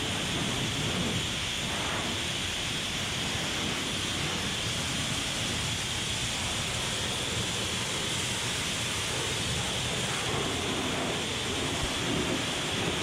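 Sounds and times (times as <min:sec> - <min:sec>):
pressure washer spraying: 0:00.0 - 0:13.0.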